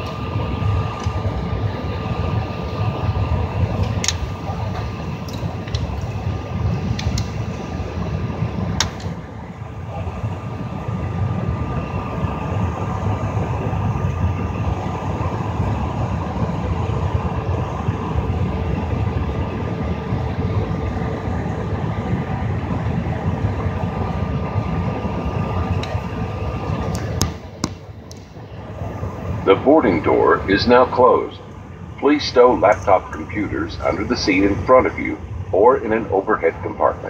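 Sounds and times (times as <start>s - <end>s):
air-conditioning hiss: 0.0s - 37.0s
aircraft cabin rumble: 0.0s - 37.0s
faint steady tones: 0.0s - 37.0s.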